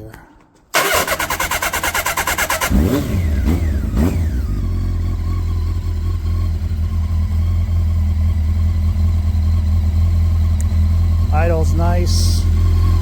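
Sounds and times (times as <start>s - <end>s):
motorcycle engine revving and idling: 0.8s - 13.0s.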